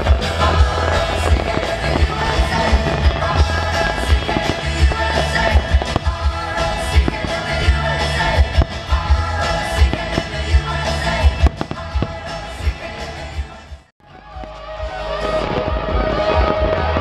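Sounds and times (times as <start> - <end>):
singing over a steady beat: 0.0 - 17.0.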